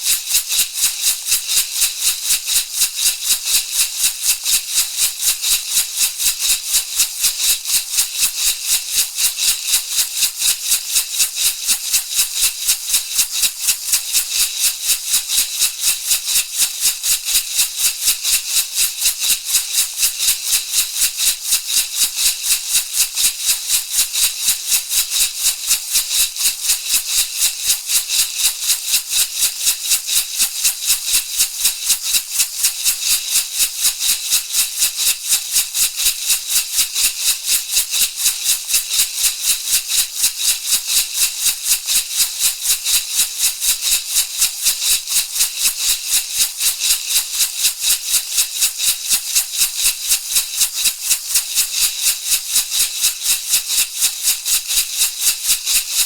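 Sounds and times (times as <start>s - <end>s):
rattle shaken rhythmically: 0.0s - 56.0s.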